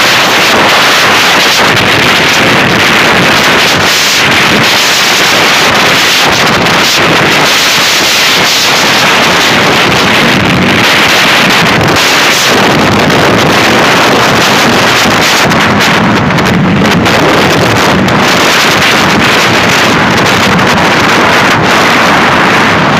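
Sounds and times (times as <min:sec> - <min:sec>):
motorcycle running: 0:00.0 - 0:22.9
road noise: 0:00.0 - 0:22.9
wind rushing over microphone: 0:00.0 - 0:22.9.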